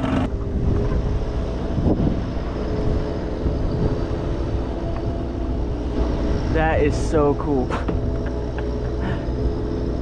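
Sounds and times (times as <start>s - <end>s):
engine drone with held tones: 0.0s - 10.0s
wind rumble on microphone: 0.0s - 10.0s.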